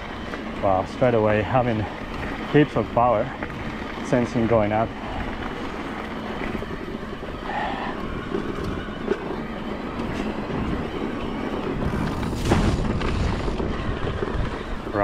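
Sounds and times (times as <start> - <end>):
mountain bike riding on dirt: 0.0 - 15.0.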